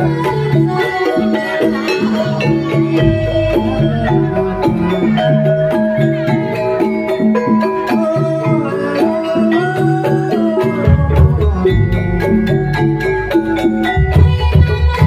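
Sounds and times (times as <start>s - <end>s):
gamelan metallophones playing: 0.0s - 15.0s.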